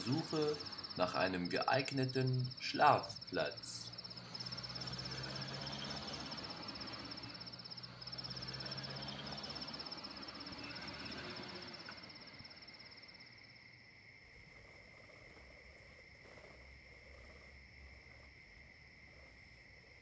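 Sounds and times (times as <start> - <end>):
crickets chirping: 0.0 - 20.0
vehicle passing with low rumble: 3.2 - 20.0.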